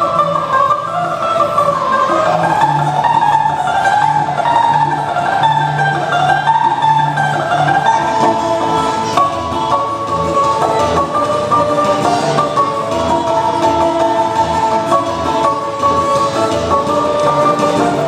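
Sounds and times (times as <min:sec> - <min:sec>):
plucked string folk music: 0:00.0 - 0:18.0.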